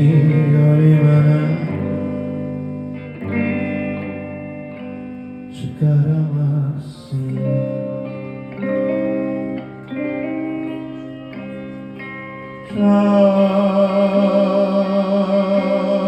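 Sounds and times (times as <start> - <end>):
live rock band with guitar: 0.0 - 16.0.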